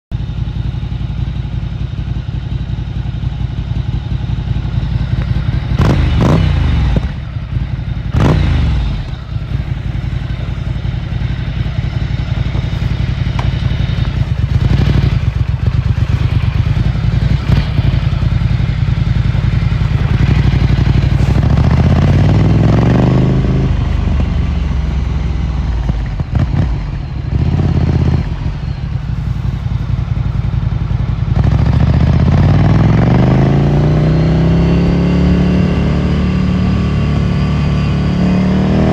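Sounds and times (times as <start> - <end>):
motorcycle engine revving: 0.2 - 38.9.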